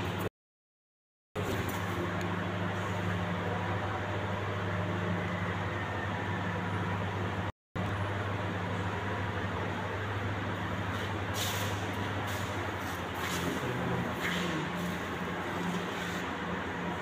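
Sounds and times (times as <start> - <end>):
machine hum: 1.4 - 17.0.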